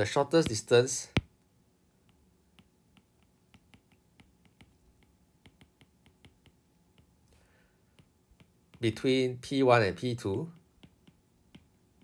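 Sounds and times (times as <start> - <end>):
stylus tapping tablet screen: 0.4 - 1.4, 2.0 - 9.0, 10.0 - 12.0.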